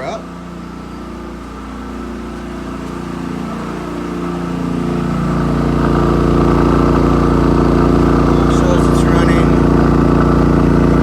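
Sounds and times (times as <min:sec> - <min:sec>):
generator engine speeding up: 0:00.0 - 0:11.0.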